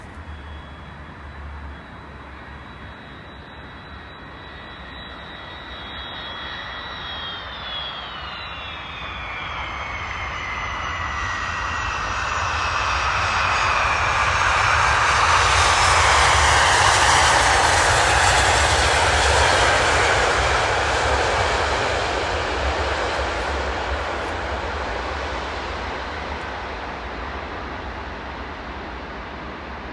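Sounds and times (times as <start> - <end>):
jet engines passing on landing: 0.0 - 29.9.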